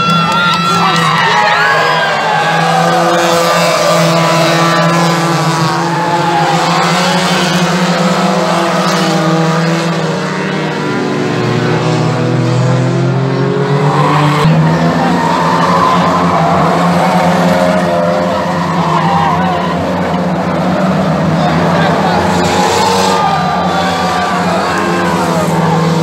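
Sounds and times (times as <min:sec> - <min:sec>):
racing car engines running hard: 0:00.0 - 0:26.0.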